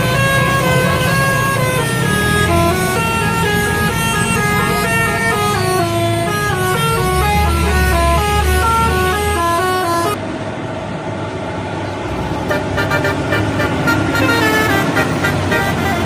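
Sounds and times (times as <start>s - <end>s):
bus horn melody: 0.0s - 10.2s, 12.4s - 16.0s
road traffic and engine noise: 0.0s - 16.0s.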